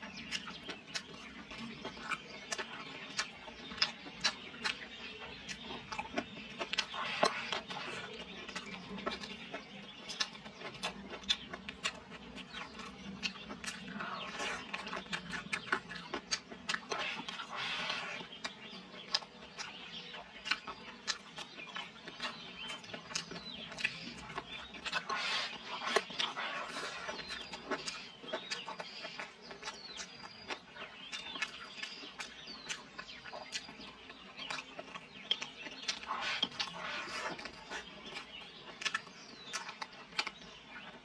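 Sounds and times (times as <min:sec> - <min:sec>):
wet chewing: 0:00.0 - 0:41.0.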